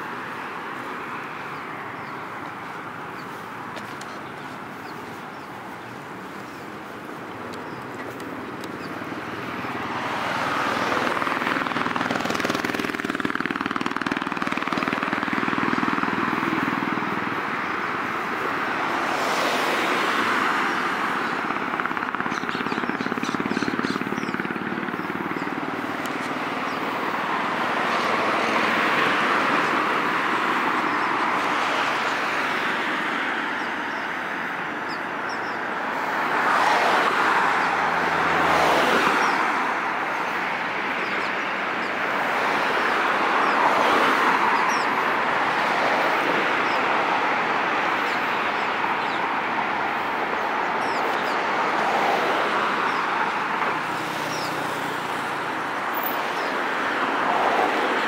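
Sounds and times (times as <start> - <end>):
cars passing: 0.0 - 58.0
road traffic hum: 0.0 - 58.0.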